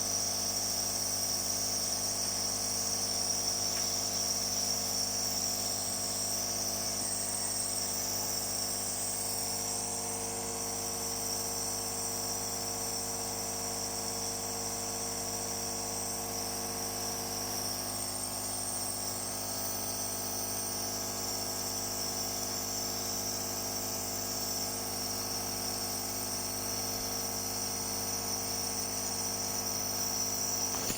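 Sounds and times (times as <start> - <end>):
nebulizer compressor buzzing: 0.0 - 15.0, 15.9 - 30.9.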